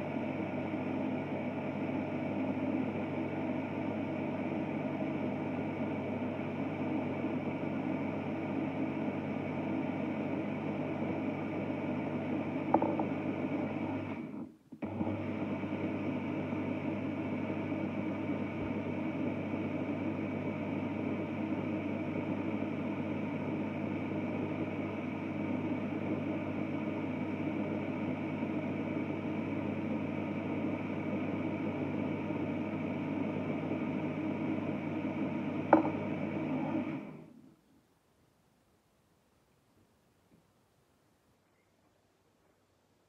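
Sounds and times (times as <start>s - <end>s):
blender motor running: 0.0s - 37.3s.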